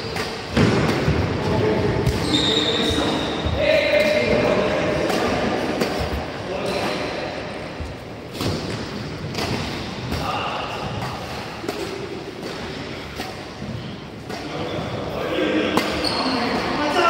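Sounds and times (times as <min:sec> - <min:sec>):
rackets hitting shuttlecock: 0:00.0 - 0:07.5, 0:08.3 - 0:14.6.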